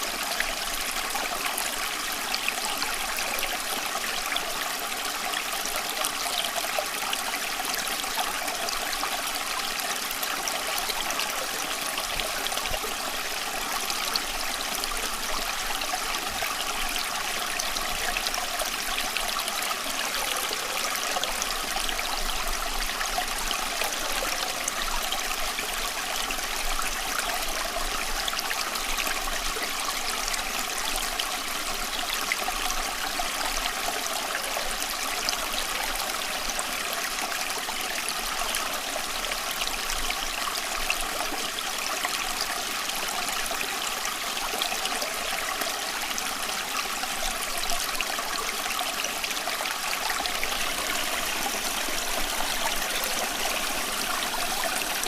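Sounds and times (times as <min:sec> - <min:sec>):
running water flowing: 0:00.0 - 0:55.0.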